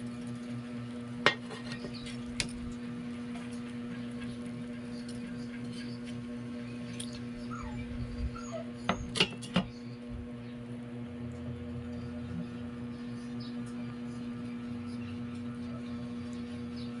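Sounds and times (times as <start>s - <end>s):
air fryer fan humming: 0.0s - 17.0s.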